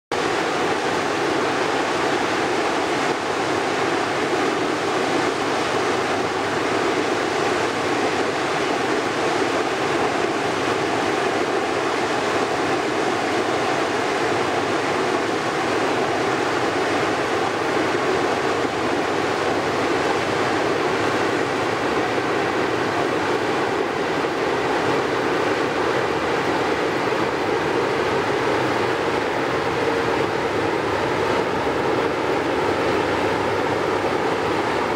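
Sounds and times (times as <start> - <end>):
water rushing along ship hull: 0.1 - 34.9
ship diesel engine drone: 0.2 - 34.9.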